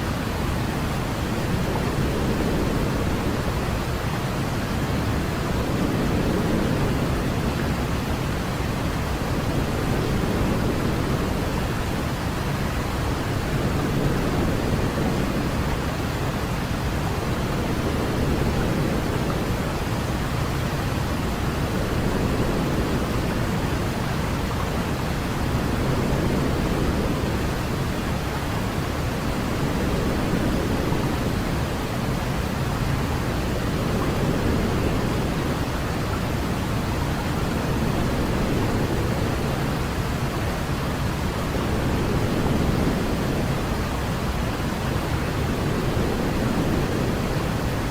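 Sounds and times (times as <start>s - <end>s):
low white noise hiss: 0.0s - 47.9s.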